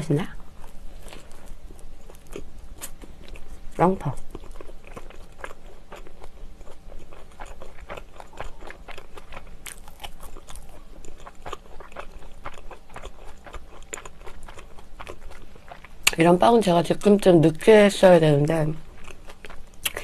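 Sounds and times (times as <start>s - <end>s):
person chewing bread: 0.4s - 16.2s, 18.8s - 20.0s.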